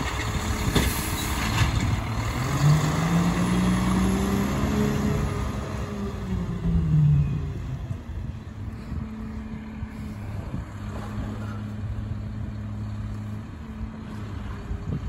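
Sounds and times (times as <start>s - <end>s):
garbage truck diesel engine accelerating: 0.0s - 15.0s.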